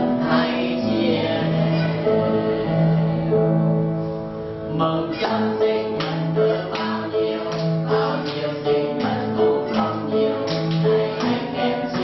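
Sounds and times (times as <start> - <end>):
group singing in unison: 0.0 - 3.6, 4.7 - 12.0
upright piano: 0.0 - 12.0.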